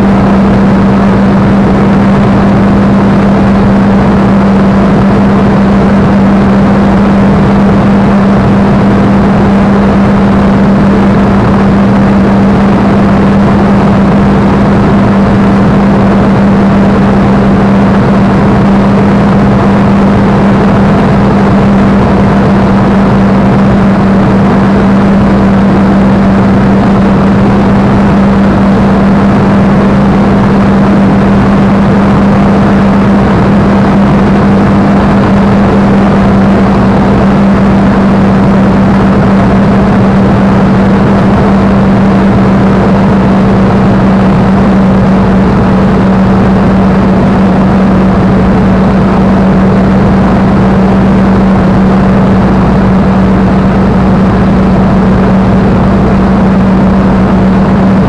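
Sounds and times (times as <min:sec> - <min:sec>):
aircraft piston engine drone: 0:00.0 - 0:58.0.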